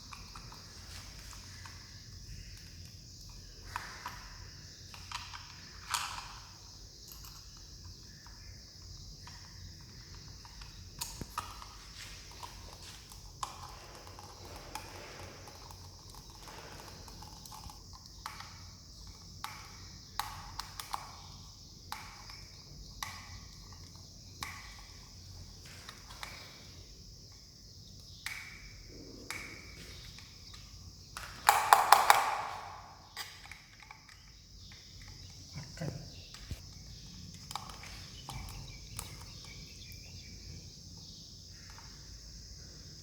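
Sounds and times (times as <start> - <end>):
hard objects clicking and knocking: 0.0 - 26.7, 28.0 - 35.5, 36.3 - 40.0.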